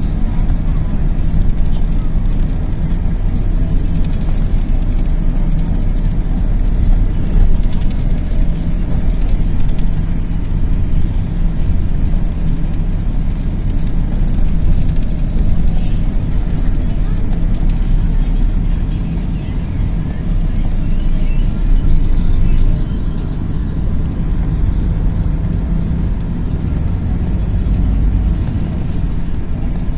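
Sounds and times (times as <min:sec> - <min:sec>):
bus engine rumble inside cabin: 0:00.0 - 0:29.9.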